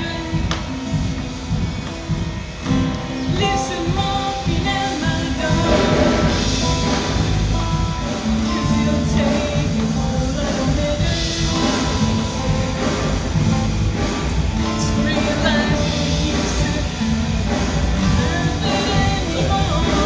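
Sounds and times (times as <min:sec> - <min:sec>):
song with regular beat: 0:00.0 - 0:20.0.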